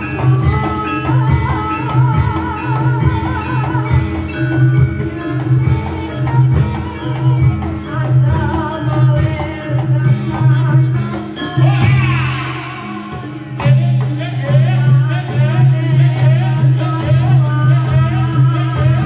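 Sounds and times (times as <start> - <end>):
wavering lead melody: 0.0 - 18.8
low drum beat: 0.0 - 19.0
ringing metal percussion: 0.0 - 19.0.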